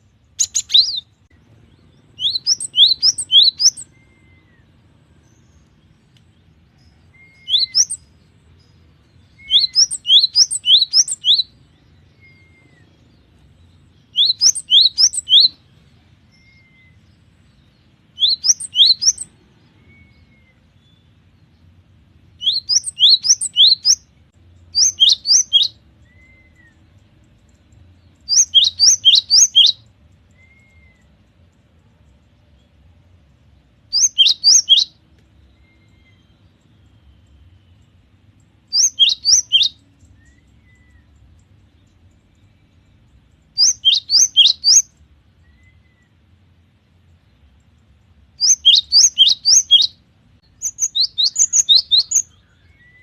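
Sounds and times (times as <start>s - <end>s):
soft bird call notes: 0.0s - 1.3s, 2.1s - 21.4s, 22.4s - 31.2s, 33.9s - 46.2s, 48.4s - 53.0s
bird whistling song: 0.0s - 21.6s, 22.4s - 27.1s, 27.8s - 31.2s, 33.9s - 46.2s, 48.4s - 53.0s.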